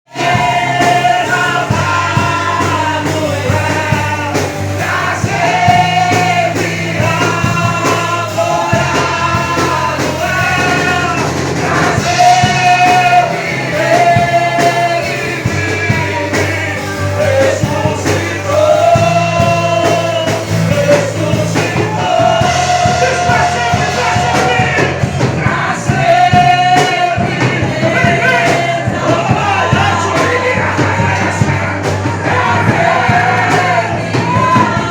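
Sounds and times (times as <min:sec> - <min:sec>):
worship band playing: 0:00.1 - 0:34.9.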